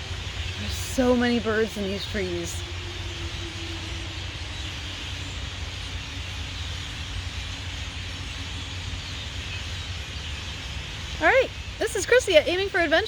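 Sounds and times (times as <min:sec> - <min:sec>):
flock of birds calling: 0:00.0 - 0:13.0
low steady rumble: 0:00.0 - 0:13.0.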